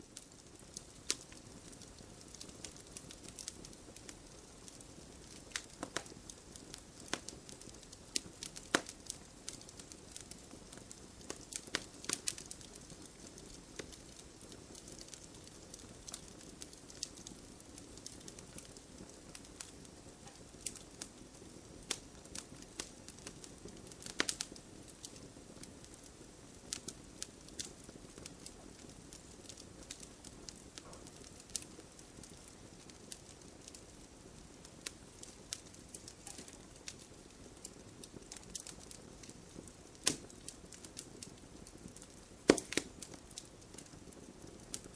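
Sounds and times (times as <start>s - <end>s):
campfire crackling: 0.0s - 44.9s
low steady hiss: 0.0s - 44.9s.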